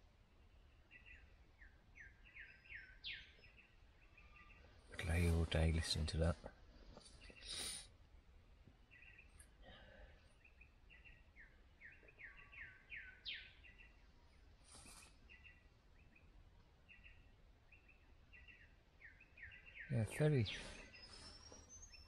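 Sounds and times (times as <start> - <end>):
faint birdsong: 0.0 - 22.0.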